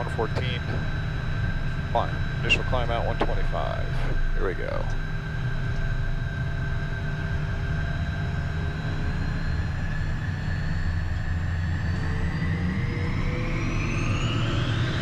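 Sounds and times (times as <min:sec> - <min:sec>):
jet engine whine: 0:00.0 - 0:15.0
jet engines rumbling: 0:00.0 - 0:15.0.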